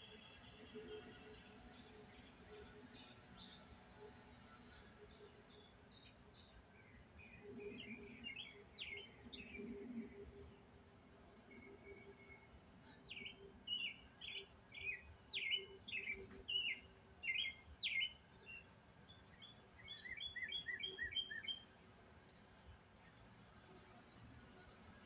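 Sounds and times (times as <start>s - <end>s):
faint steady hum: 0.0s - 25.0s
songbird singing: 0.0s - 25.0s.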